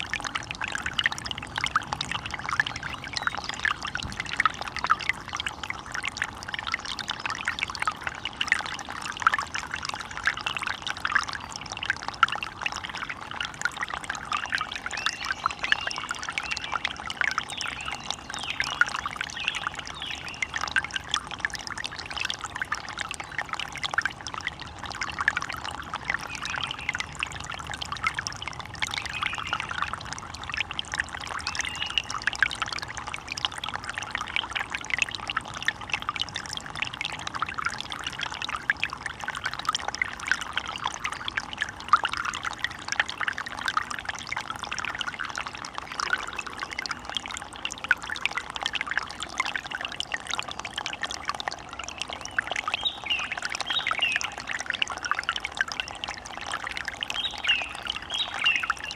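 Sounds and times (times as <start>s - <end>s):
stream water trickling: 0.0s - 58.9s.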